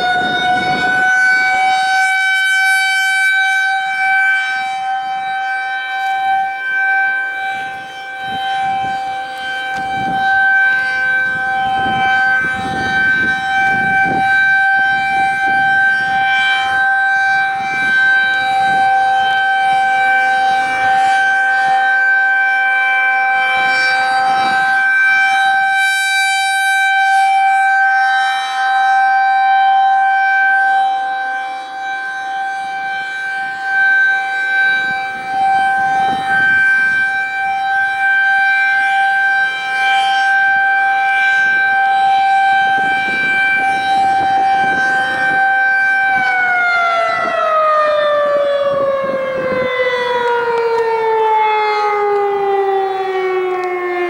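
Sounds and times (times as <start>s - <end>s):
rotating siren steady tone: 0.0s - 54.0s.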